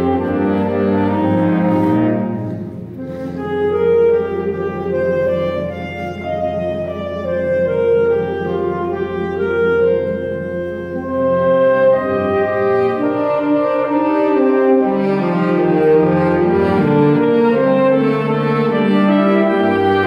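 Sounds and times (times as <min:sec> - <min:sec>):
saxophone ensemble chords: 0:00.0 - 0:20.0.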